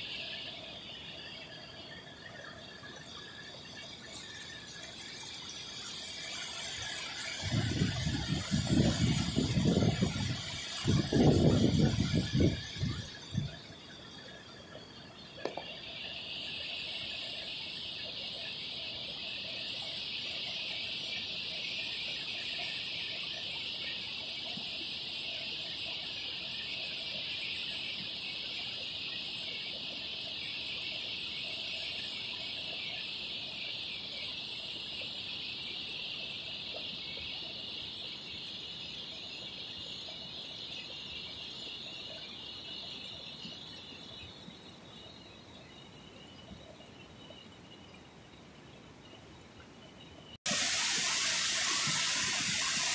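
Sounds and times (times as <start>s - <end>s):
frogs calling: 0.0s - 48.0s
flowing water: 0.0s - 52.9s.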